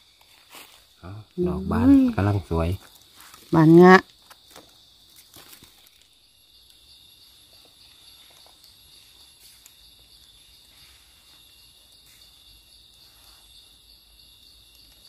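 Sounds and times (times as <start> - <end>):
high-pitched insect drone: 1.0 - 15.0
soft ticks and rustles: 2.8 - 15.0.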